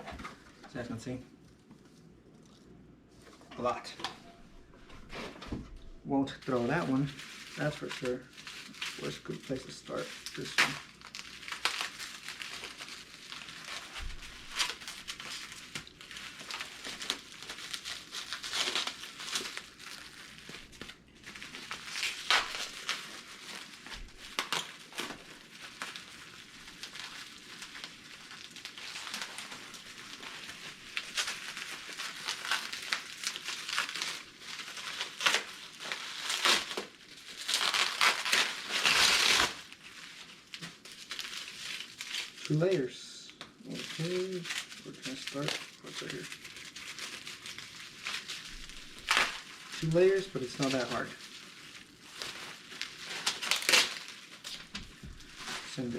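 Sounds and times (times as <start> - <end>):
packaging crinkling and rustling: 0.0 - 55.9.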